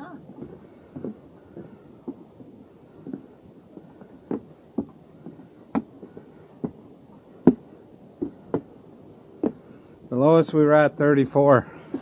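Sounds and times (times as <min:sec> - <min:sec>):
footsteps on wooden steps: 0:00.0 - 0:12.0.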